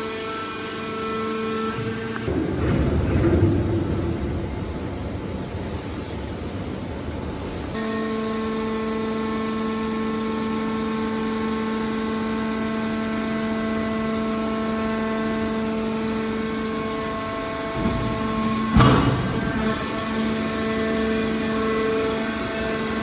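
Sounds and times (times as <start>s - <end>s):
factory machinery humming: 0.0s - 23.0s.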